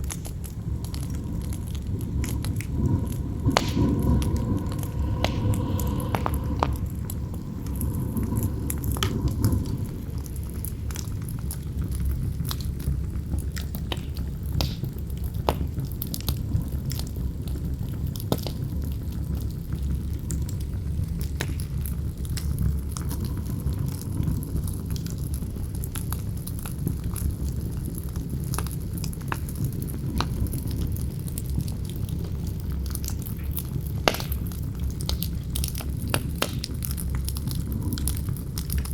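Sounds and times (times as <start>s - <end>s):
burning wood crackling and popping: 0.0s - 38.9s
low rumble of wind: 0.0s - 38.9s.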